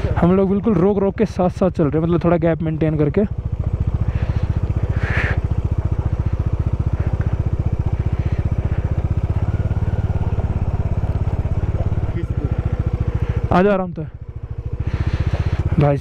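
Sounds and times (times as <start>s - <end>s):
motorcycle engine pulsing: 0.0s - 16.0s.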